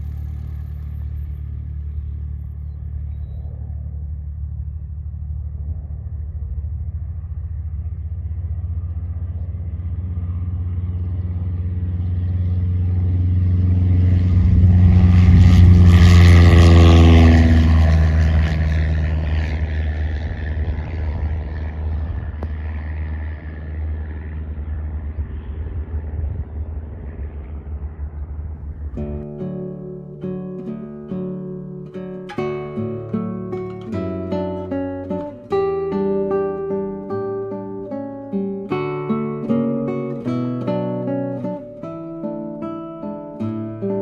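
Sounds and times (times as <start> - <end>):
light aircraft passing: 0.0 - 44.0
low engine drone: 0.0 - 44.0.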